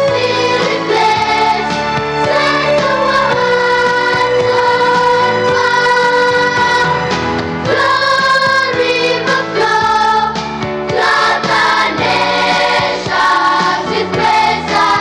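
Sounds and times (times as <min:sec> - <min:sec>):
hymn singing: 0:00.0 - 0:15.0
instrumental accompaniment: 0:00.0 - 0:15.0.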